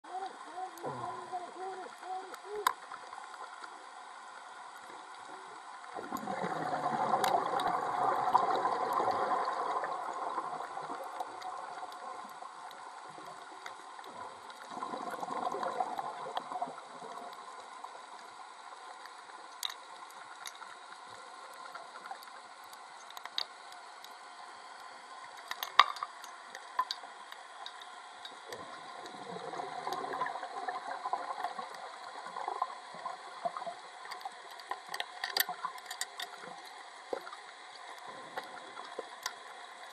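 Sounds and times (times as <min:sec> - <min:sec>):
underwater background crackle: 0:00.0 - 0:39.9
underwater bubbling: 0:00.0 - 0:39.9.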